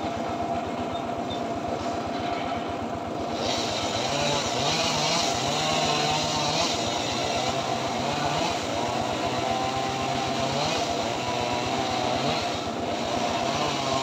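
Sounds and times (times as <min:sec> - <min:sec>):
circular saw engine running: 0:00.0 - 0:14.0.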